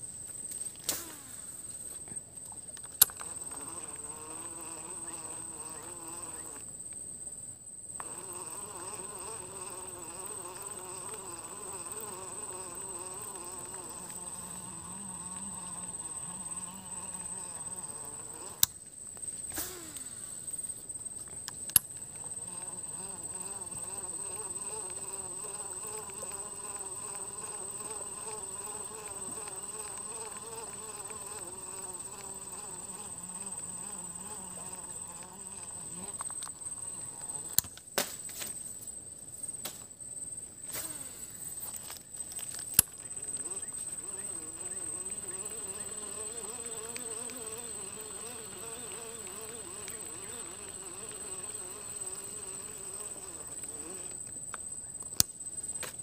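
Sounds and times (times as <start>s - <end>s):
flying insects buzzing: 0.0s - 7.1s, 7.8s - 55.0s.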